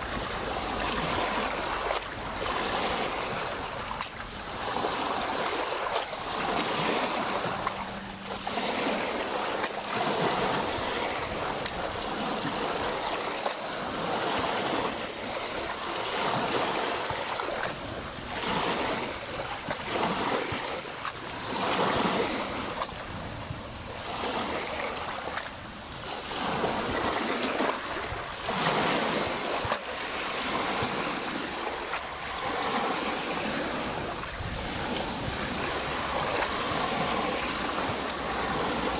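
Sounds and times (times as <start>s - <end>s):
lake waves washing against shore: 0.0s - 38.9s.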